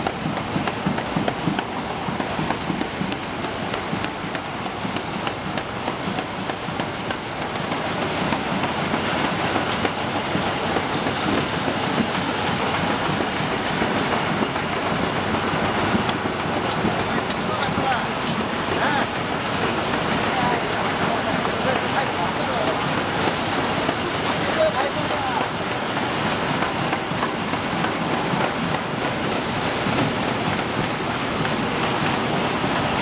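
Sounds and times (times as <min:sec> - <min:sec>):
fast mechanical ticks: 0:00.0 - 0:33.0
machine clatter of belts and rollers: 0:00.0 - 0:33.0.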